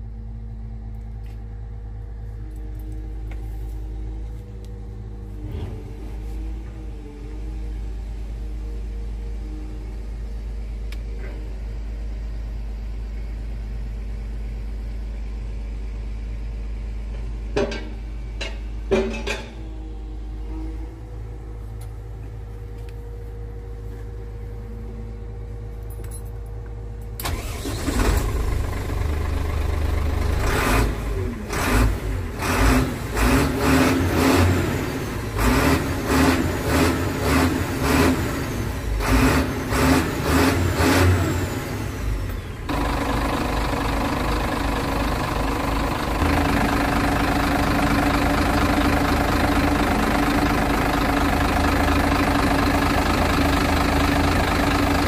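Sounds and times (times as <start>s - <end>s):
diesel truck engine starting and idling: 0.0s - 55.0s.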